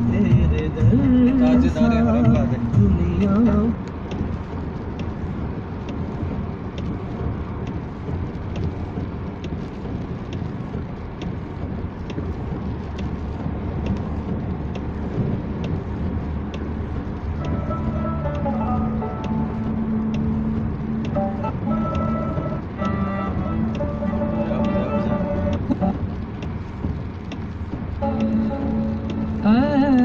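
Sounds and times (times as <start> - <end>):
car engine drone: 0.0 - 30.0
faint ticking: 0.0 - 30.0
tyres on wet road: 0.0 - 30.0.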